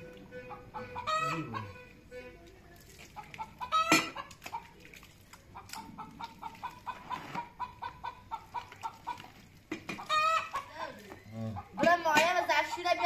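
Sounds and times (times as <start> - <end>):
chickens clucking: 0.0 - 2.1, 3.1 - 4.8, 5.4 - 13.0.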